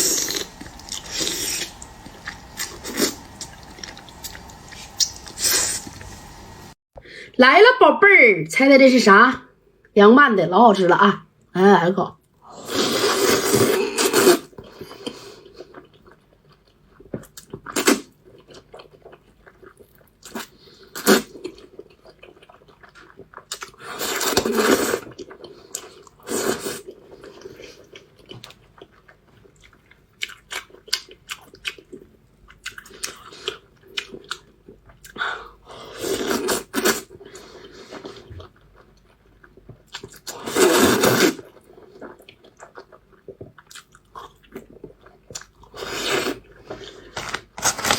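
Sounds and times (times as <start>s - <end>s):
person chewing crunchy food: 0.0s - 6.6s, 12.7s - 47.9s.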